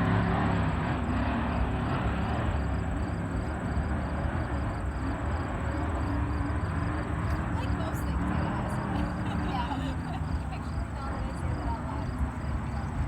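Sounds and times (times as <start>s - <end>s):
distant boat engines droning: 0.0s - 13.0s.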